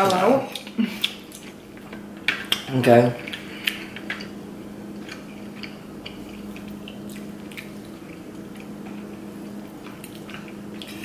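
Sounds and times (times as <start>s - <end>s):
quiet chewing: 0.0s - 11.0s
steady low hum: 0.0s - 11.0s.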